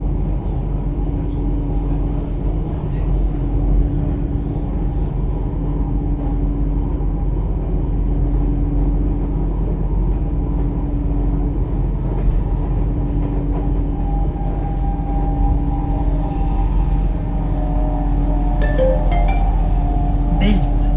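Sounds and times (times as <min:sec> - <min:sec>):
train wheels rumbling on track: 0:00.0 - 0:20.9.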